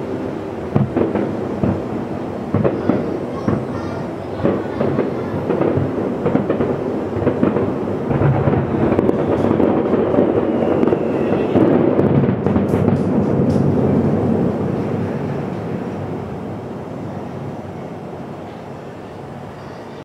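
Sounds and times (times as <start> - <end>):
fireworks crackling: 0.0 - 19.2
distant fireworks barrage: 0.0 - 19.4.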